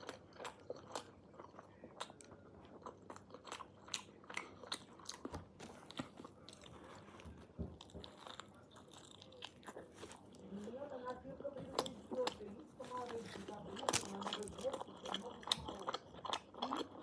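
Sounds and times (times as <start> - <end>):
crunchy bites and chewing: 0.0 - 10.7, 13.0 - 17.0.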